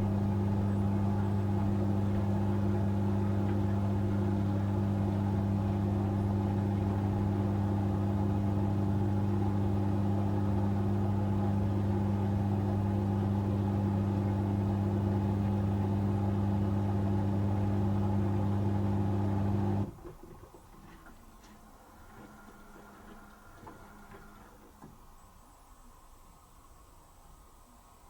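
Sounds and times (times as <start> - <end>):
washing machine humming: 0.0 - 24.7.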